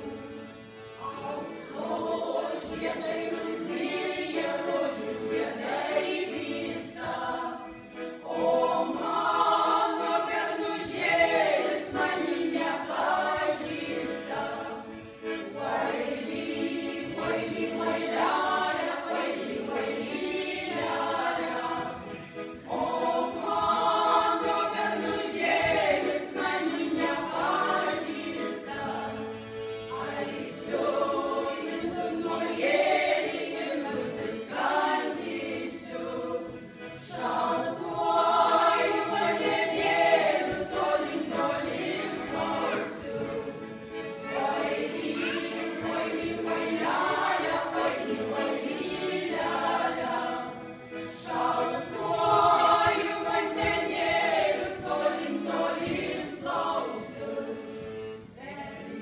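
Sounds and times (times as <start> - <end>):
accordion: 0.0 - 59.0
women's choir singing folk song: 0.0 - 59.0.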